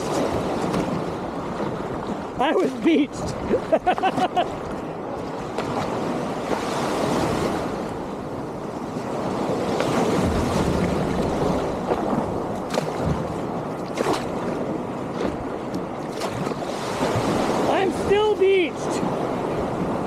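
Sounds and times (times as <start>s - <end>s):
surf washing in marsh: 0.0s - 20.0s.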